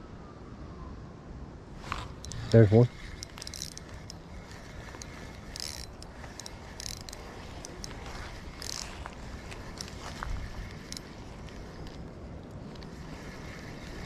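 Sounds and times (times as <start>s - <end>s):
fishing reel whirring and clicking: 1.8s - 14.0s
high-pitched ticking bursts: 1.8s - 14.0s.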